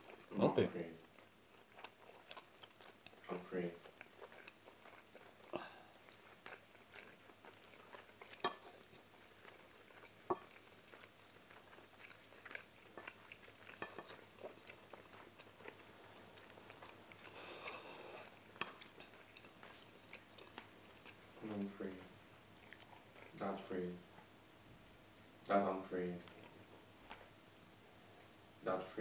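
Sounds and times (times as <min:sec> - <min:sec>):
chewing and mouth noises: 0:00.0 - 0:24.4, 0:25.4 - 0:27.4.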